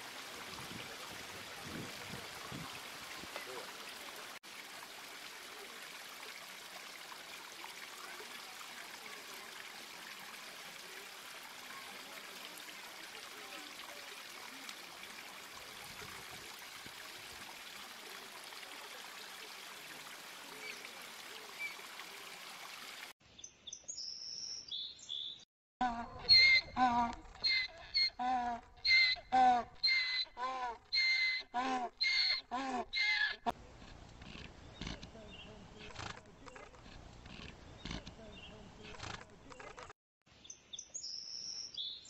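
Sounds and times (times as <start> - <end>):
trickling water: 0.0 - 23.2, 26.2 - 39.9.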